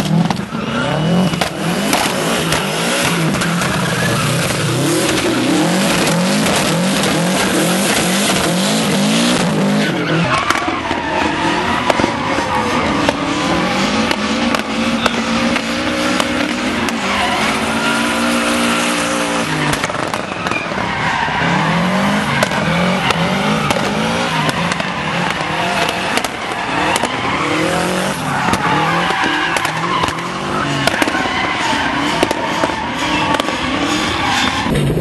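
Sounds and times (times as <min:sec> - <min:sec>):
car engines revving: 0:00.0 - 0:35.0
tyres squealing: 0:00.4 - 0:34.7.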